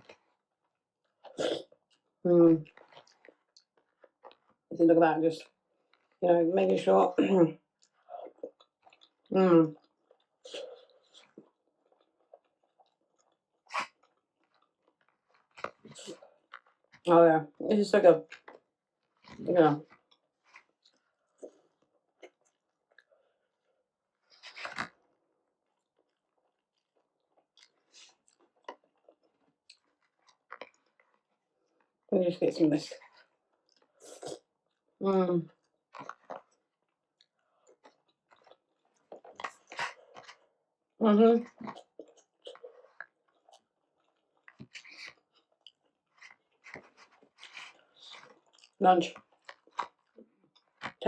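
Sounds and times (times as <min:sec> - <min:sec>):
person chewing wet food: 0:00.0 - 0:04.7, 0:07.7 - 0:17.1, 0:18.2 - 0:32.1, 0:33.0 - 0:35.0, 0:35.6 - 0:51.0.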